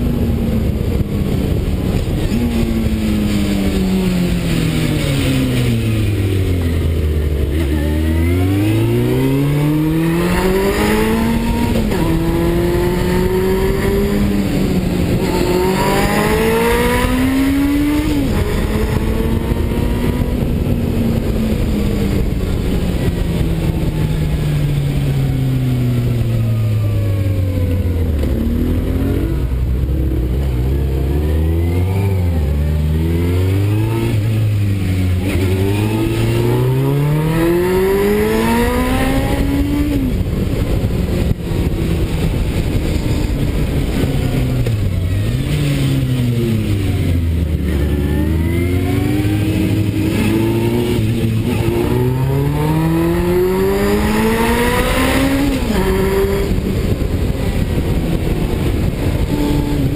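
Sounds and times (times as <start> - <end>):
wind rushing: 0.0 - 7.6, 8.2 - 26.8, 27.4 - 59.9
motorcycle engine revving: 0.0 - 59.9.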